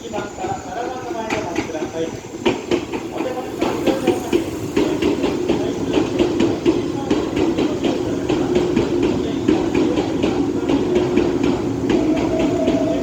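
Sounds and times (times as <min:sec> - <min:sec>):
electric train running hum: 0:00.0 - 0:13.0.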